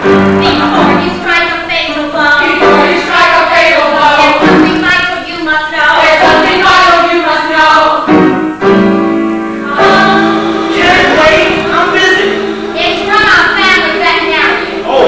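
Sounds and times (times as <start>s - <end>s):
cast singing together: 0.5s - 8.1s, 9.6s - 15.0s.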